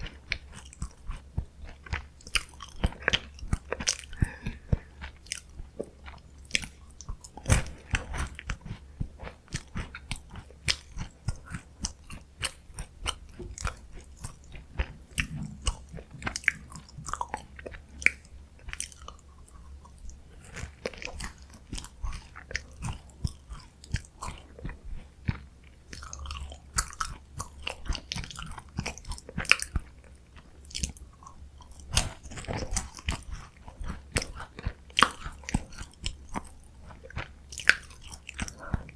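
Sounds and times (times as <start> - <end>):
chewing crunchy snacks: 0.0 - 38.9.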